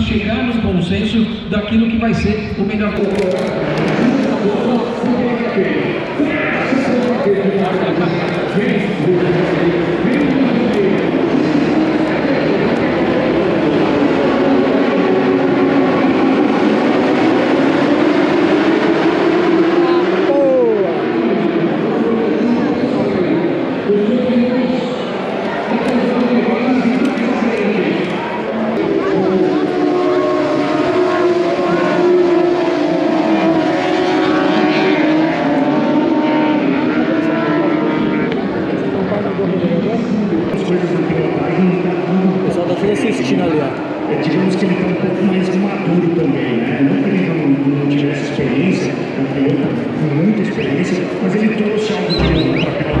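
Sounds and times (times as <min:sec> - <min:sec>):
racing motorcycle engines: 0:00.0 - 0:53.0.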